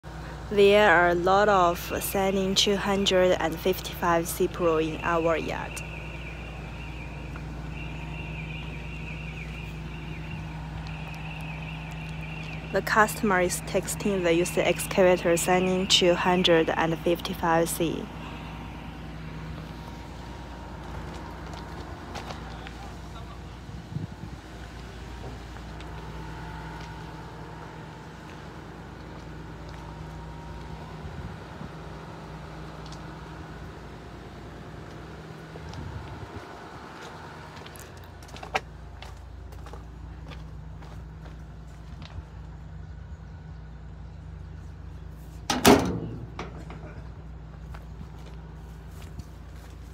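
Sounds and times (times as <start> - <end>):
low mechanical hum: 0.0 - 49.9.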